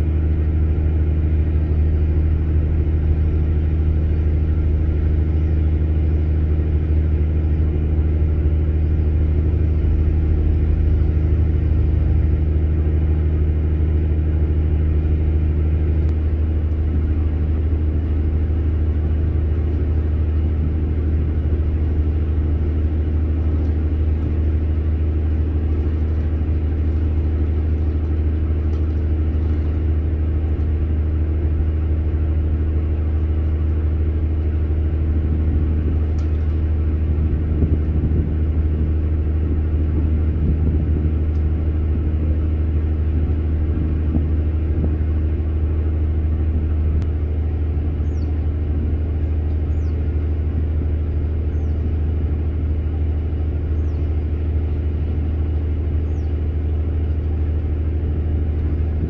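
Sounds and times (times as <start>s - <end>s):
engine rumbling: 0.0s - 59.0s.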